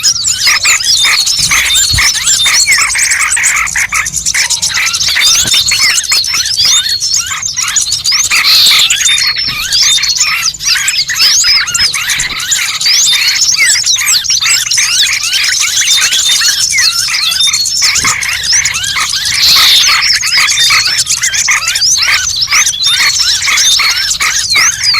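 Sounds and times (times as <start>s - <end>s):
small birds chirping and twittering: 0.0s - 24.9s.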